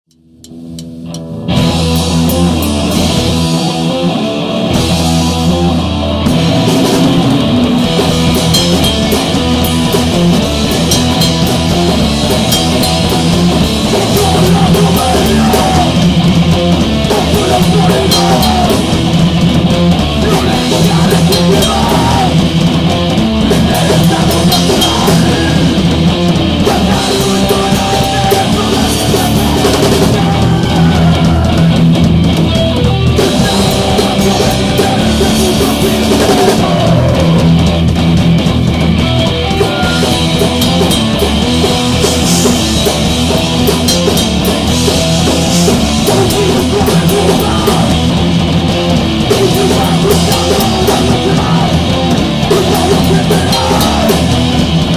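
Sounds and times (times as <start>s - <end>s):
punk rock band playing: 0.2s - 54.9s.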